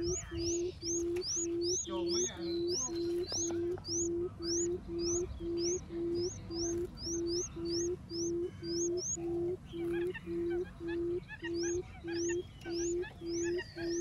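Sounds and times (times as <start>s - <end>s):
bird low hooting call: 0.0s - 14.0s
thin high rising chirps: 0.0s - 14.0s.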